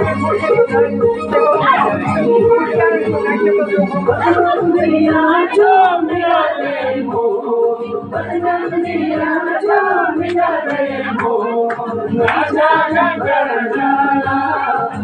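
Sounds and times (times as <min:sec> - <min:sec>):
group singing in unison: 0:00.1 - 0:15.0.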